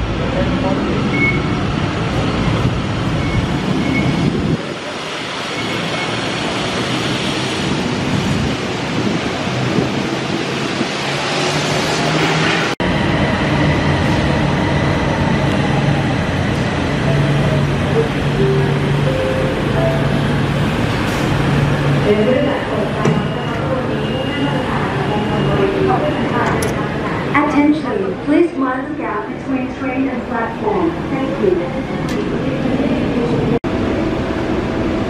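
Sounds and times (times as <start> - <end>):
rail station noise: 0.0 - 35.0
train humming at platform: 0.0 - 35.0.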